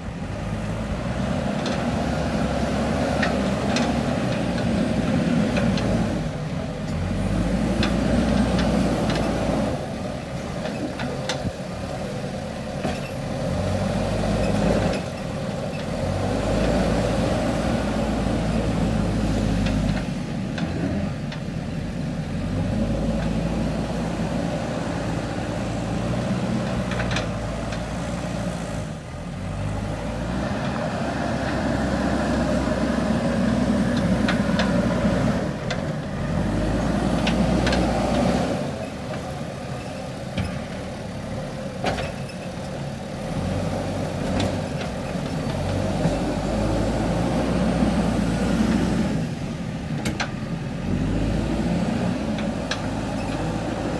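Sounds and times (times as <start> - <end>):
backhoe diesel engine working: 0.0 - 53.9.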